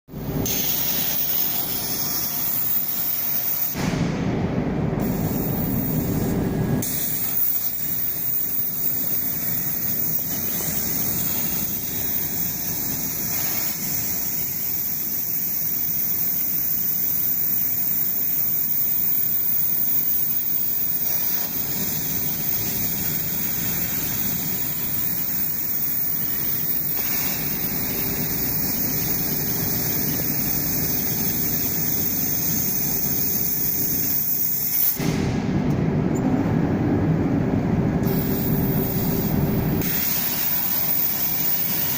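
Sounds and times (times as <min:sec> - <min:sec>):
plasma torch hissing: 0:00.2 - 0:04.0, 0:05.0 - 0:35.4, 0:38.0 - 0:41.9.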